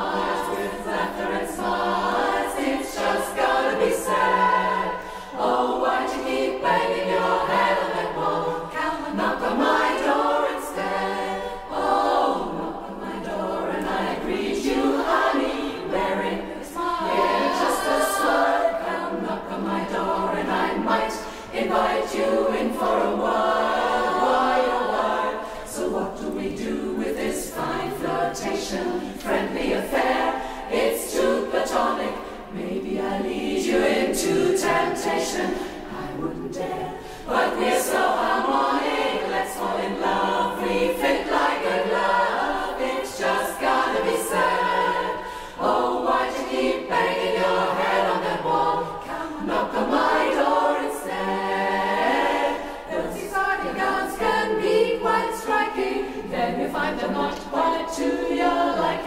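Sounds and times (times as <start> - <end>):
women's chorus singing a cappella: 0.0 - 59.0.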